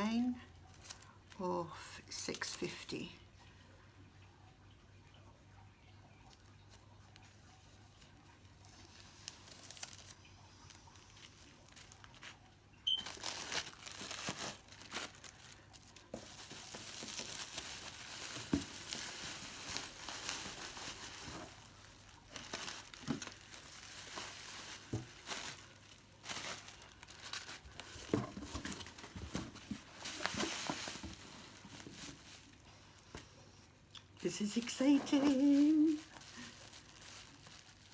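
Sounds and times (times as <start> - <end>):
bubble wrap crinkling: 0.0 - 2.9, 6.1 - 33.4, 34.2 - 37.9.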